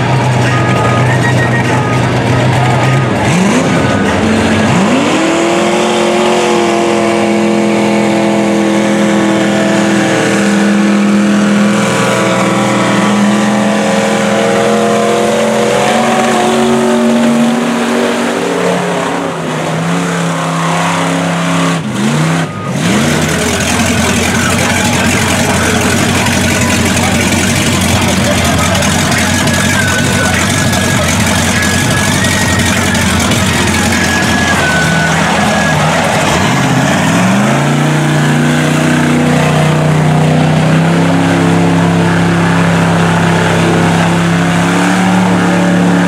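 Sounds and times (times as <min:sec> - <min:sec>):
truck engines revving high: 0:00.0 - 0:46.0.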